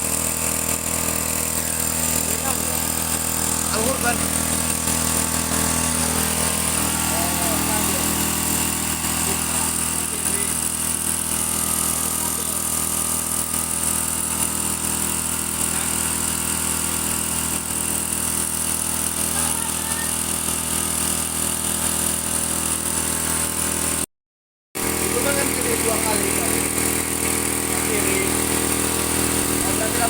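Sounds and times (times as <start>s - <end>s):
two-stroke sprayer engine running: 0.0s - 24.1s, 24.8s - 30.0s.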